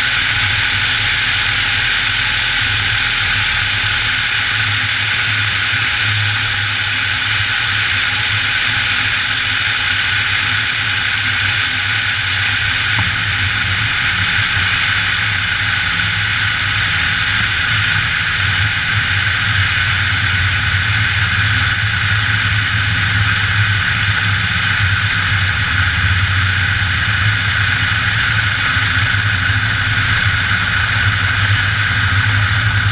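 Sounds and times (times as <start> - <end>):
aircraft engine and propeller drone: 0.0 - 32.9.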